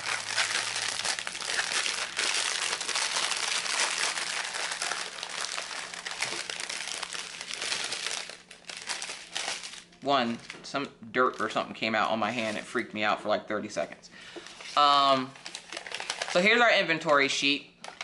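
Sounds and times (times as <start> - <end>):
plastic bag crinkling: 0.0 - 12.7, 14.6 - 18.0.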